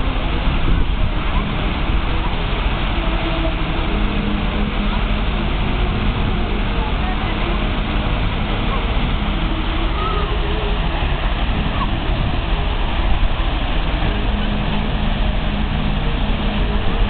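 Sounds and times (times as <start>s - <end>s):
fountain spray rushing: 0.0s - 17.0s
low rumble: 0.0s - 17.0s.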